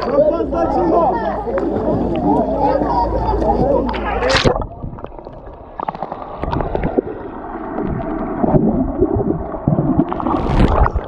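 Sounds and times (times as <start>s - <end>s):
muffled underwater rushing: 0.0s - 11.0s.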